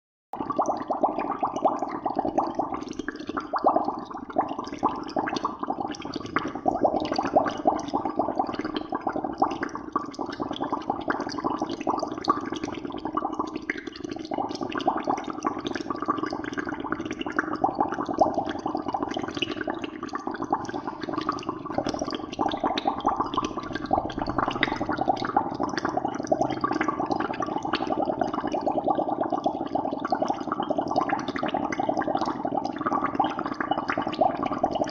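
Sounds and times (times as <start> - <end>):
water bubbling: 0.4 - 34.9.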